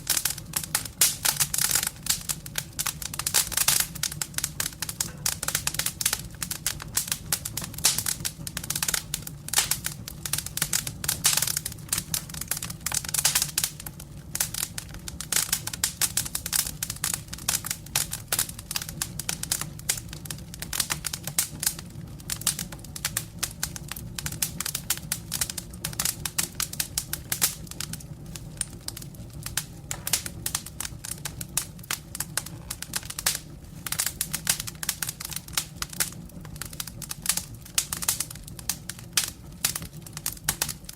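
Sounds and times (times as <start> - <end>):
low steady rumble: 0.0 - 40.9
wood fire crackling: 0.0 - 40.9.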